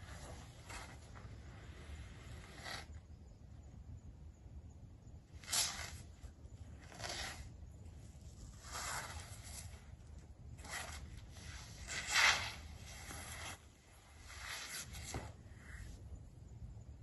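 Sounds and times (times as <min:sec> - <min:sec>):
clothing scraping against concrete: 0:00.0 - 0:03.0, 0:05.4 - 0:16.0.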